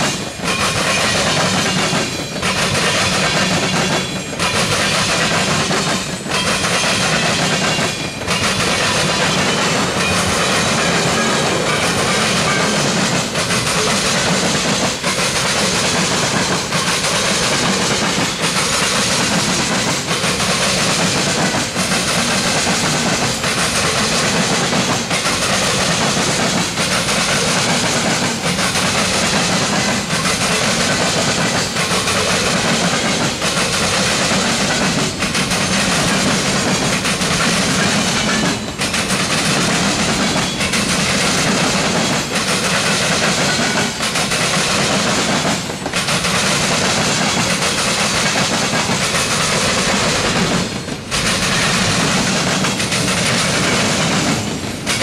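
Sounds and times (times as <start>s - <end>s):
clack over rail joints: 0.0s - 55.0s
train wheels on rails: 0.0s - 55.0s.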